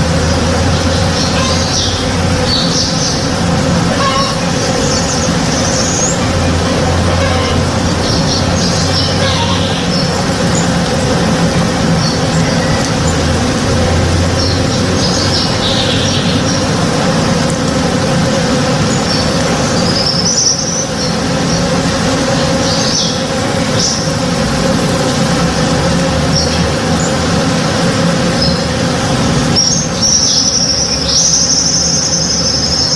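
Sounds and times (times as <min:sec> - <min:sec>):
bees buzzing: 0:00.0 - 0:32.9.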